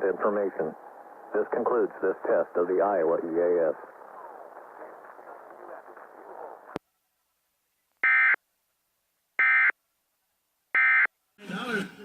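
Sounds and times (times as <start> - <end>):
faint background audio: 0.0 - 12.0.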